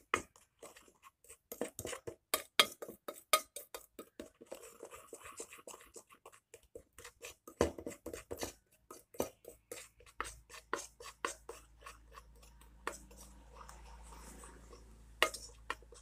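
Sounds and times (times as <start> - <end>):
metal spoon scraping metal bowl: 0.0 - 16.0.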